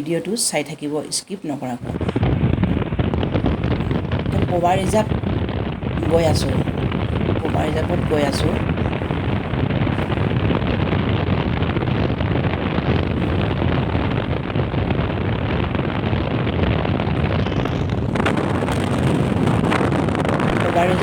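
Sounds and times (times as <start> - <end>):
wind buffeting microphone: 1.7 - 21.0.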